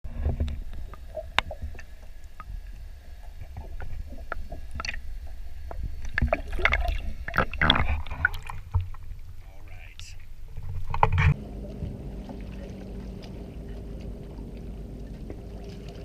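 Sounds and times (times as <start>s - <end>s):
water knocking and splashing on hull: 0.1s - 9.5s, 10.5s - 16.0s
low steady rumble: 0.1s - 16.0s.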